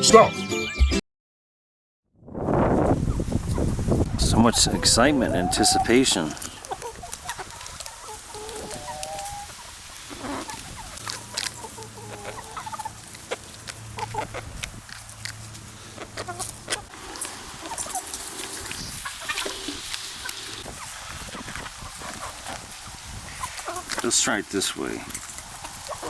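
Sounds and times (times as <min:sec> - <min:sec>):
hens clucking: 0:02.8 - 0:26.0.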